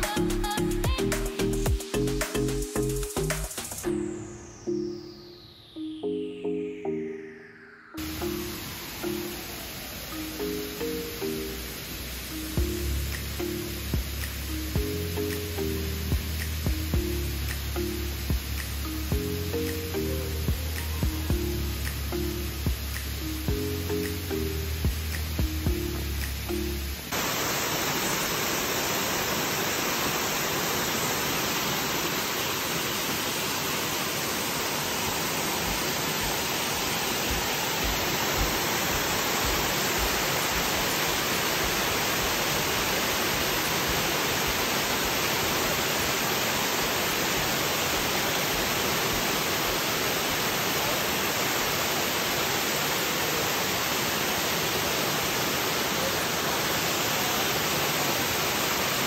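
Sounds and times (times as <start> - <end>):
waterfall roaring: 8.0 - 59.0.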